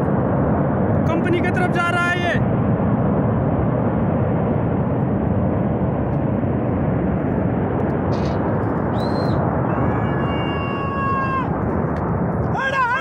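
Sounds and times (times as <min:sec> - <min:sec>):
flash flood roaring: 0:00.0 - 0:13.0.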